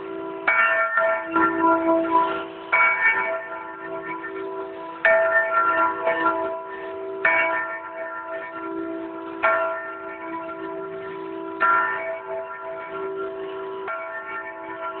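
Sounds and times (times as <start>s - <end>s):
bronze bell ringing: 0.0s - 15.0s.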